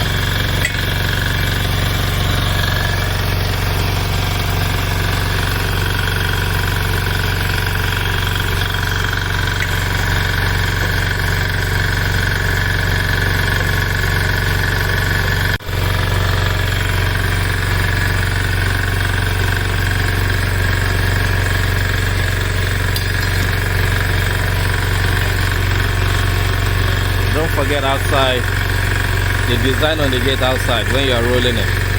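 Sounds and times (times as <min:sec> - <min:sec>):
engine running steadily: 0:00.0 - 0:31.9.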